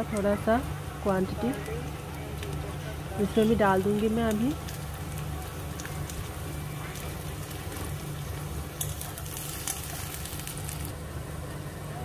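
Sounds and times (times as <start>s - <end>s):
onions sizzling in oil: 0.0s - 11.1s
steady low hum: 0.0s - 12.0s.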